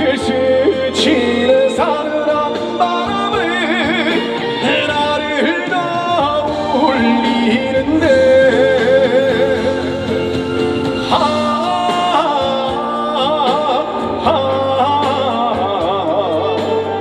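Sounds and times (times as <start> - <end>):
live band music: 0.0 - 17.0
person singing ballad: 0.0 - 17.0.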